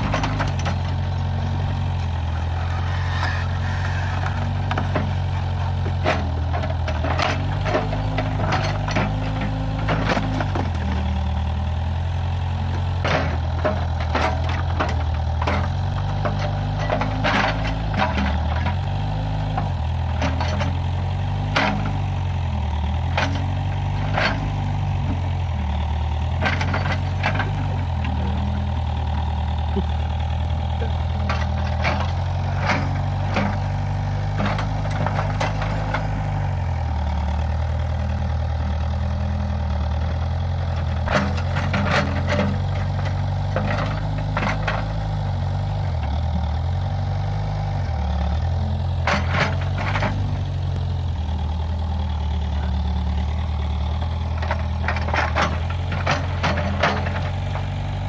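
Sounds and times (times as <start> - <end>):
diesel engine labouring: 0.0 - 58.0.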